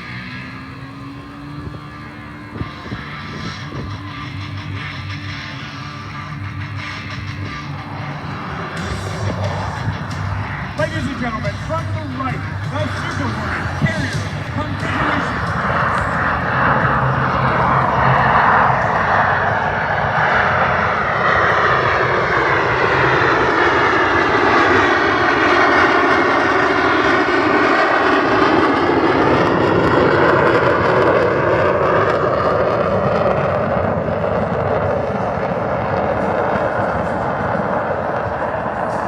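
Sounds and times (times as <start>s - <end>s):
jet flyby roar: 0.0s - 39.0s.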